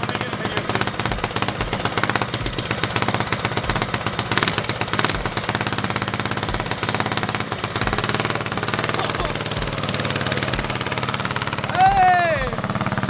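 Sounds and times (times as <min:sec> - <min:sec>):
small engine exhaust rattle: 0:00.0 - 0:13.0.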